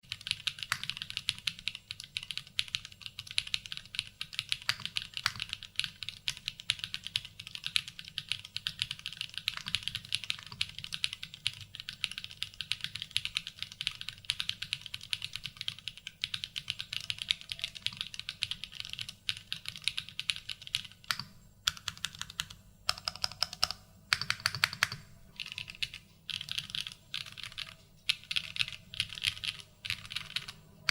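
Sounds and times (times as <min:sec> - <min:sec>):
mechanical keyboard typing: 0:00.0 - 0:30.9.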